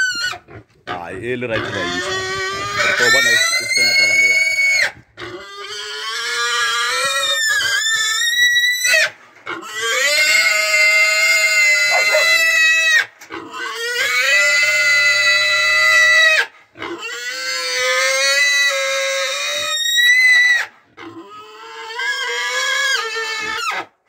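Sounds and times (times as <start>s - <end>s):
pig squealing: 0.0s - 23.9s.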